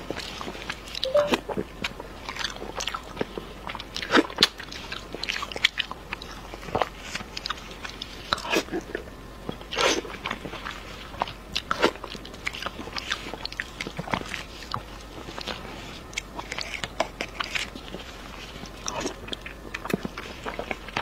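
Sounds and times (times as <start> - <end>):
person chewing meat: 1.8 - 21.0.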